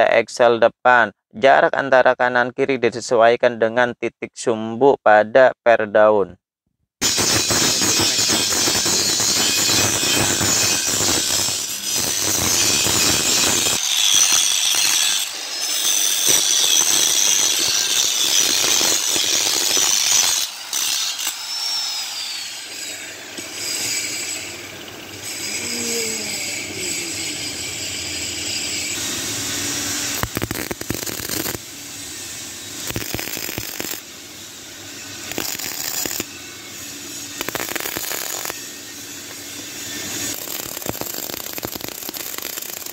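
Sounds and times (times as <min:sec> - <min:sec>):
welding arc hissing: 0:07.0 - 0:42.9.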